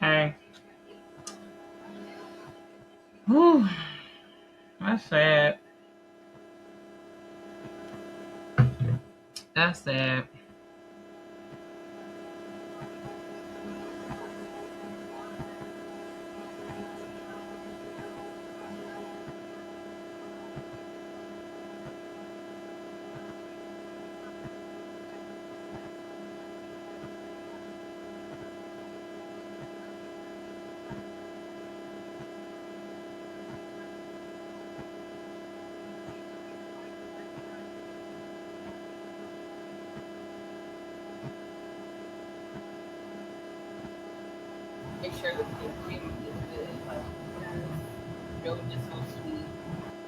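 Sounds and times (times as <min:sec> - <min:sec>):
electrical hum: 0:00.0 - 0:50.0.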